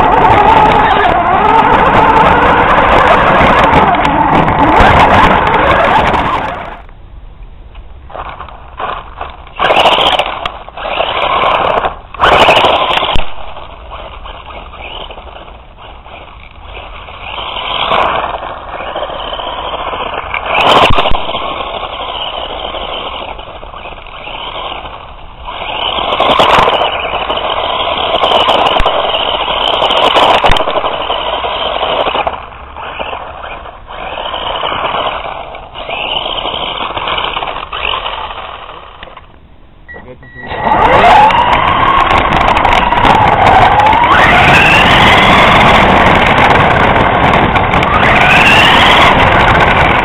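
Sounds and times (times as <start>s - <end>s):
radio-controlled car engine buzzing: 0.0s - 6.9s, 8.2s - 39.3s, 40.0s - 50.0s.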